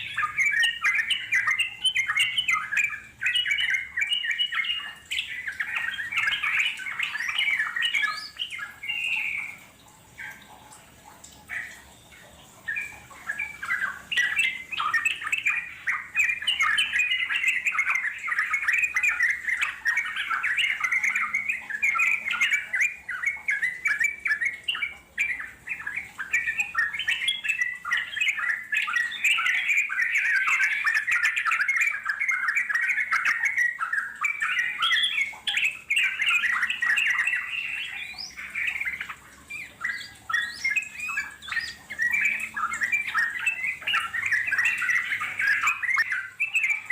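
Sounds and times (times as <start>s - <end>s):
bulbul chattering song: 0.0s - 46.9s.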